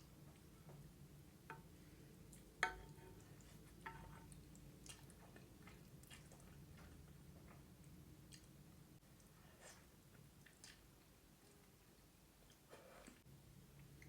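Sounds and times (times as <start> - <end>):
soft ticks of eating: 0.2 - 14.0.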